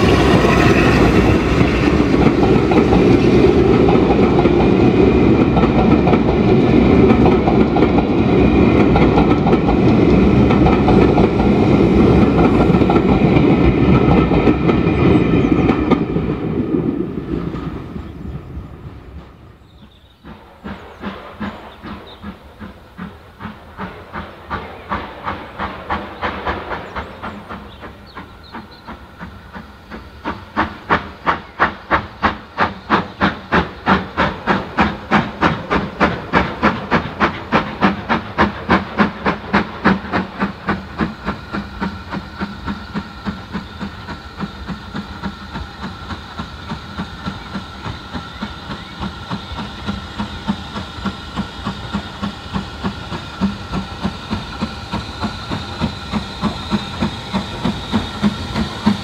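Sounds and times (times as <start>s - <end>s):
steam locomotive chuffing: 0.0s - 59.0s
train coaches rumbling over rails: 0.0s - 59.0s.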